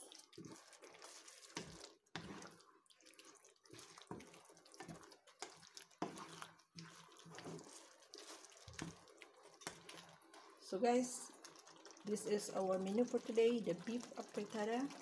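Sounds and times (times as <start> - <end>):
stew squelching and sloshing: 0.0 - 15.0.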